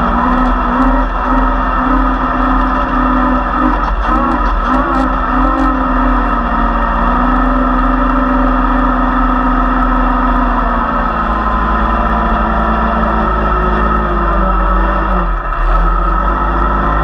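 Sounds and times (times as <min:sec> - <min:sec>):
driving noise rushing: 0:00.0 - 0:17.0
off-road engine running under load: 0:00.0 - 0:17.0.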